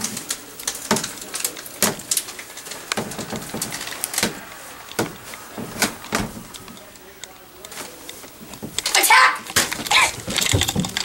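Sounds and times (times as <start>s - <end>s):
plastic pouch crinkling: 0.0s - 11.0s.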